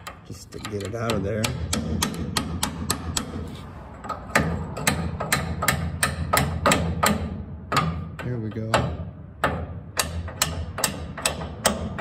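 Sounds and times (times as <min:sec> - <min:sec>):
hammer tapping on metal: 0:00.0 - 0:12.0.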